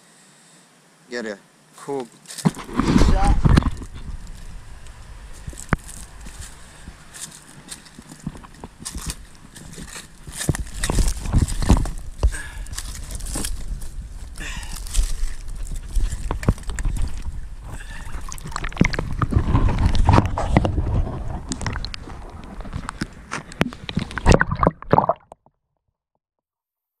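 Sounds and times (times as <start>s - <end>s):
water sloshing and gurgling: 2.5s - 25.4s.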